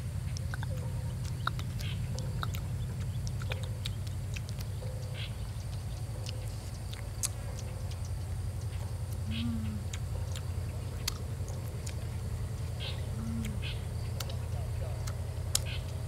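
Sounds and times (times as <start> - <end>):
steady low hum: 0.0 - 16.0
chewing and lip smacks: 0.2 - 16.0.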